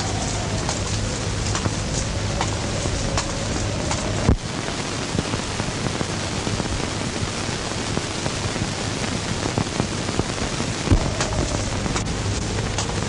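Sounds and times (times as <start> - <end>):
film soundtrack surface hiss and crackles: 0.0 - 13.0.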